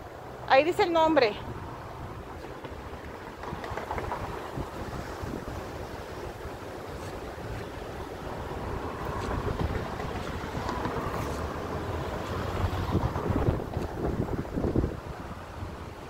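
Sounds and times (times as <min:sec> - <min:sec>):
open-air rumble: 0:00.0 - 0:16.0
wind buffeting microphone: 0:01.0 - 0:16.0.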